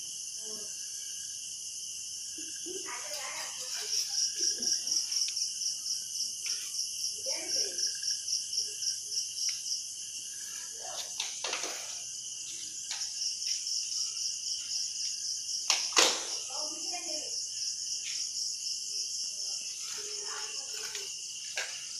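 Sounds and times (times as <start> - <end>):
crickets chirping: 0.0 - 21.9.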